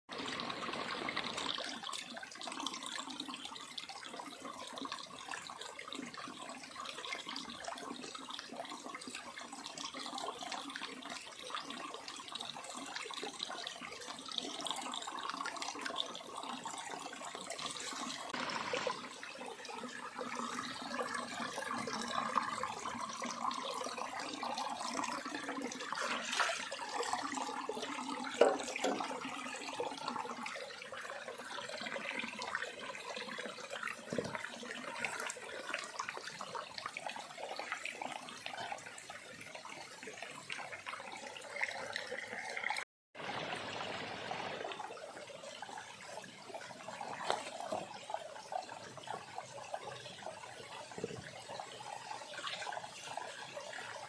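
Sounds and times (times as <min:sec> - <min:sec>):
stream rushing and trickling: 0:00.1 - 0:54.0.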